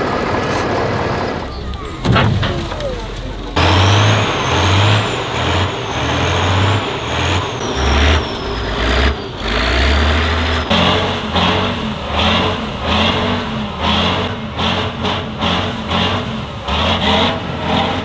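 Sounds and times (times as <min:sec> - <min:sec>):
truck diesel engine labouring: 0:00.0 - 0:18.0
truck engine pulsing evenly: 0:00.0 - 0:18.0.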